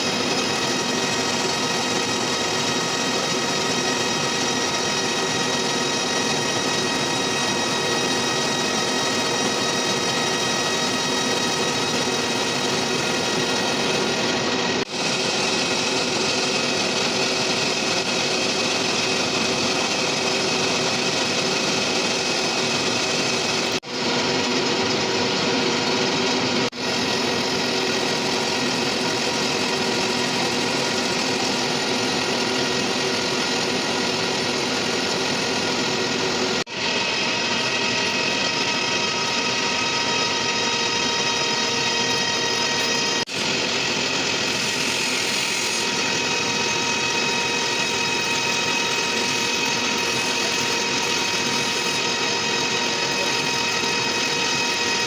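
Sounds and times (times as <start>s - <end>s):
machine tool hum and whine: 0.0s - 55.0s.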